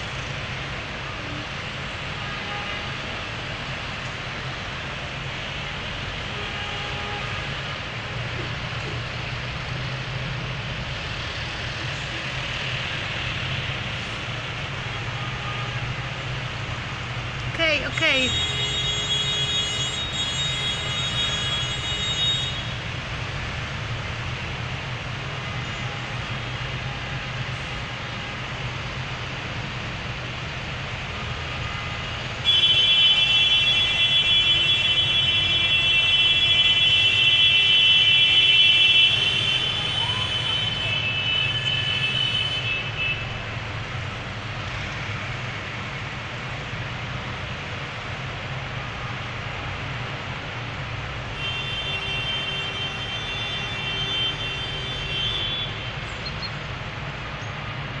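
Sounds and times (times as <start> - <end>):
tractor engines rumbling: 0.0 - 58.0.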